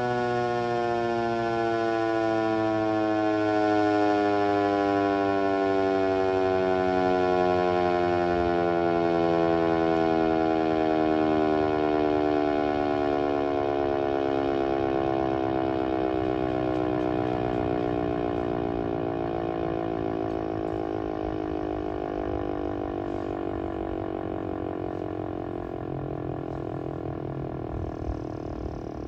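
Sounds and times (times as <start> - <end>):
warning siren winding down: 0.0 - 29.0.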